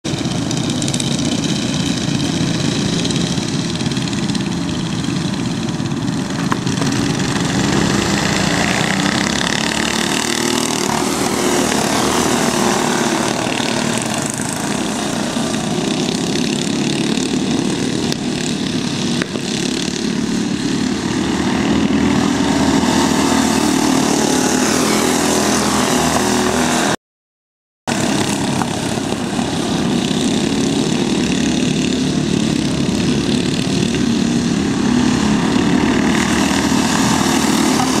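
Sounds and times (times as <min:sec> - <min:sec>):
go-kart engines racing: 0:00.0 - 0:27.0, 0:27.9 - 0:38.0.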